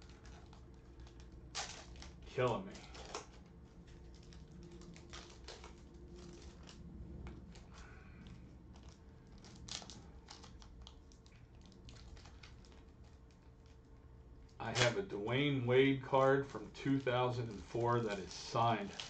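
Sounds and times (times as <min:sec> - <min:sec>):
plastic wrapper crinkling and tearing: 0:00.0 - 0:15.1, 0:16.2 - 0:19.0.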